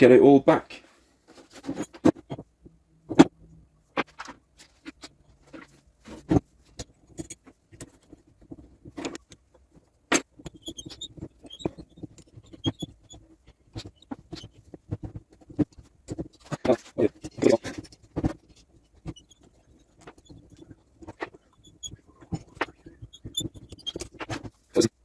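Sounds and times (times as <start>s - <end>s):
metal parts clicking and knocking: 4.0s - 24.9s.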